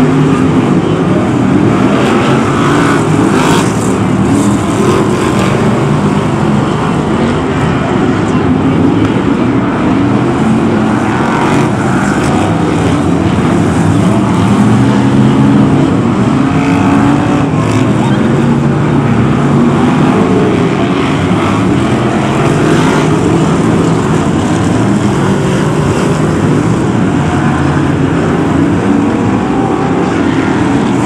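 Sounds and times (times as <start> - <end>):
racing car engines roaring: 0.0 - 31.0.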